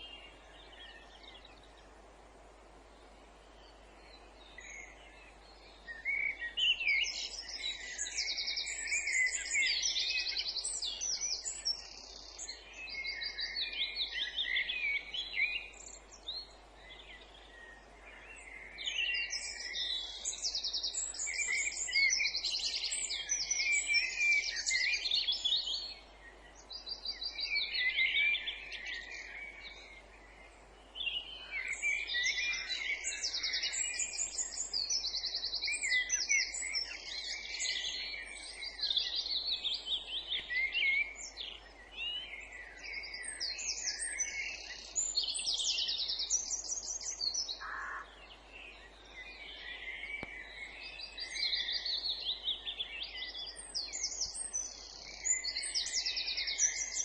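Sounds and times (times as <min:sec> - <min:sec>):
songbirds singing trills: 0:00.0 - 0:57.0.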